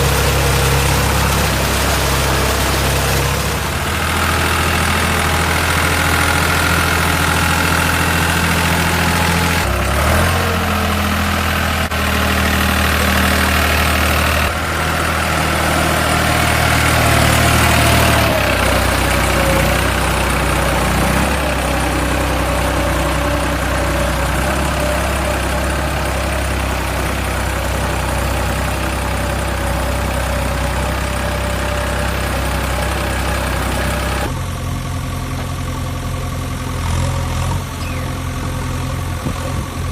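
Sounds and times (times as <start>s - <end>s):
heavy machine engine idling: 0.0s - 39.9s.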